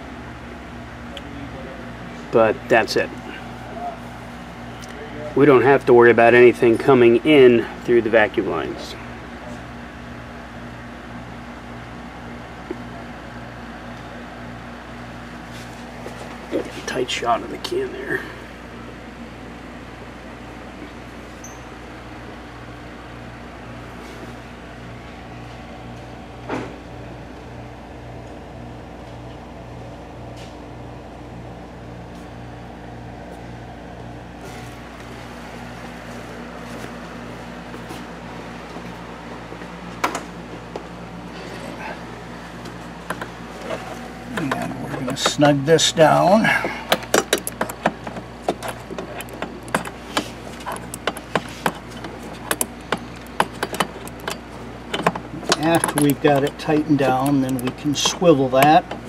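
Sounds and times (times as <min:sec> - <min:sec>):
pulsing low machine hum: 0:07.3 - 0:59.0.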